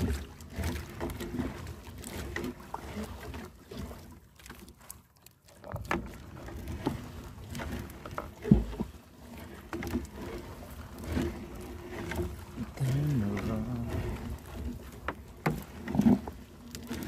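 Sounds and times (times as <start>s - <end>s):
knocks and rustles against hull: 0.0s - 17.0s
low rumble of water and boat: 0.0s - 17.0s.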